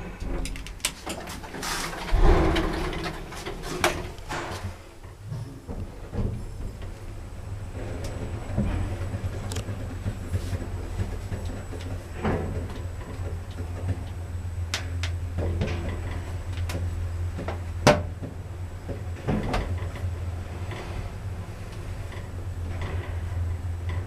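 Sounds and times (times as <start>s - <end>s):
lift machinery humming: 0.0s - 24.0s.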